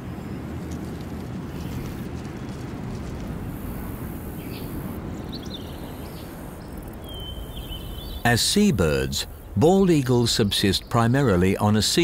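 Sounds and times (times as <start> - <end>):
low outdoor ambient noise: 0.0 - 12.0.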